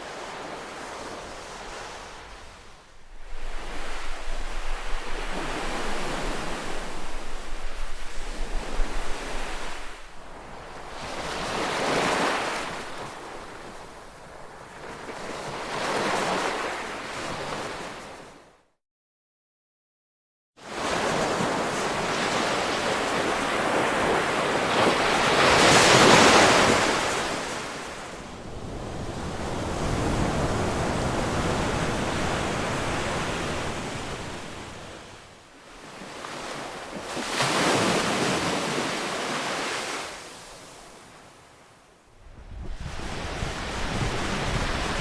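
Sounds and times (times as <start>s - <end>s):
ocean waves breaking on shore: 0.0s - 18.4s, 20.6s - 45.0s.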